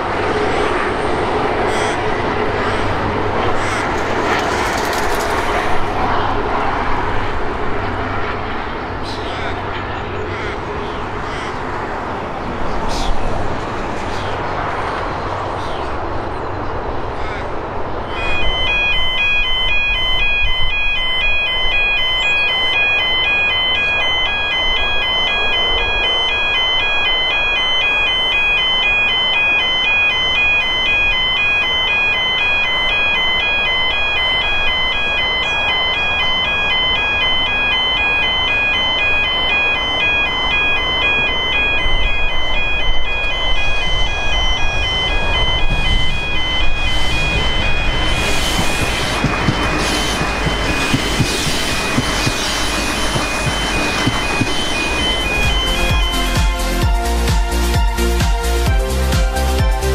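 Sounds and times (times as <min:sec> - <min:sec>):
level crossing warning bell: 0:00.0 - 0:58.0
diesel railcar rumble: 0:00.0 - 0:59.9.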